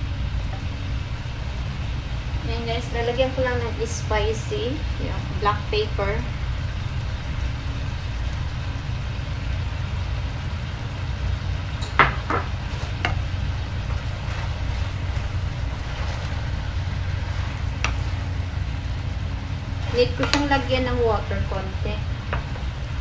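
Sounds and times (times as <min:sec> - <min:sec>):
food sizzling in a wok: 0:00.0 - 0:23.0
low rumble: 0:00.0 - 0:23.0.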